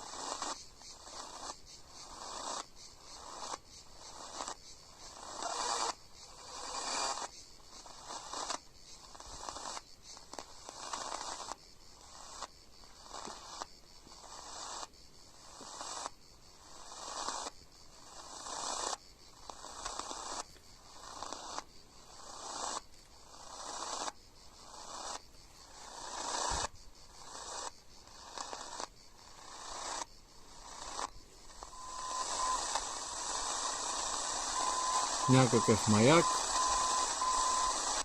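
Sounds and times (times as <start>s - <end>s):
faint steady whistles: 0.0s - 38.0s
radio static hiss and crackle: 0.0s - 38.0s.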